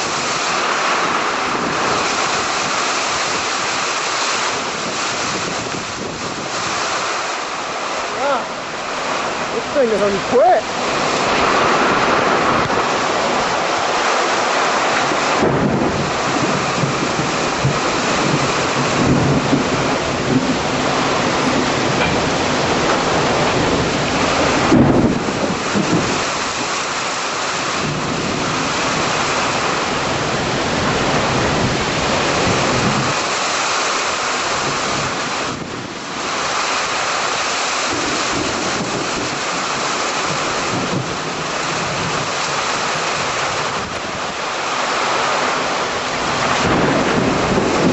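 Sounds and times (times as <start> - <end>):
heavy rain pouring: 0.0 - 47.9
thunder rumbling: 0.0 - 47.9.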